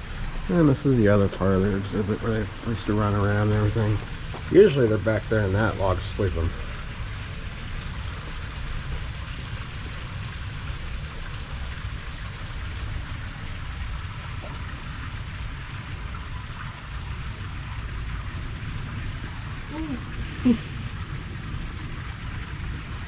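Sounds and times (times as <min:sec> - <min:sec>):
low rumble: 0:00.0 - 0:23.0
running water rushing: 0:00.0 - 0:23.0.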